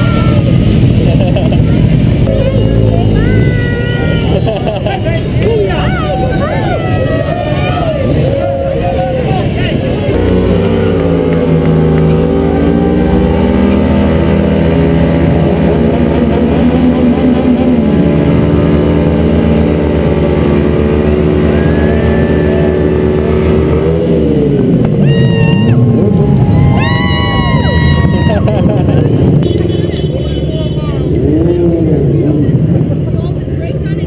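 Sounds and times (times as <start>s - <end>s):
motorcycle engines revving high: 0.0s - 34.0s.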